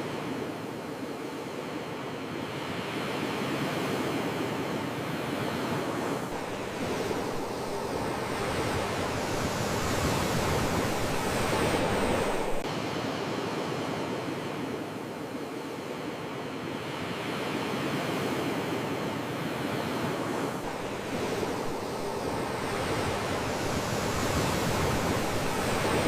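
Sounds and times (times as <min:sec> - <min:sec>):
ocean waves breaking: 0:02.6 - 0:15.6, 0:17.0 - 0:26.0.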